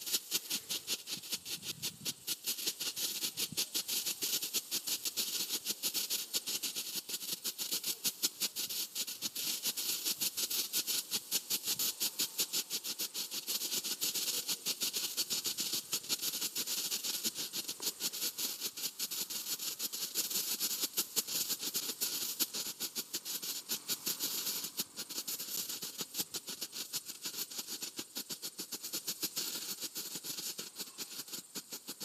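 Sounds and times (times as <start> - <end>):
strobe crackling pops: 0.0 - 20.1, 20.8 - 32.0
steady hiss: 0.0 - 32.0.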